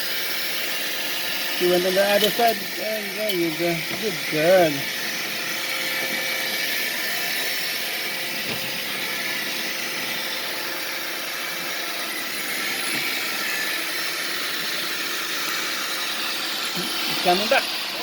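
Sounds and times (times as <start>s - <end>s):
robot vacuum whirring: 0.0s - 18.0s.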